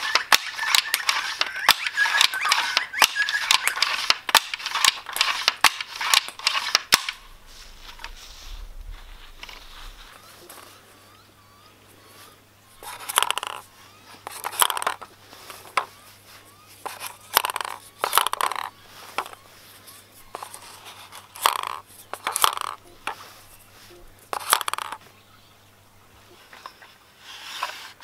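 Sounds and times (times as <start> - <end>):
wooden parts scraping and clattering: 0.0 - 11.1, 11.9 - 25.1, 26.2 - 28.0.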